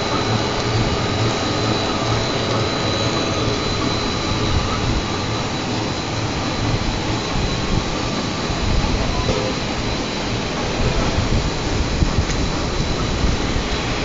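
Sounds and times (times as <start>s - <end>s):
machinery noise: 0.0s - 14.0s
thin high whine: 0.0s - 14.0s.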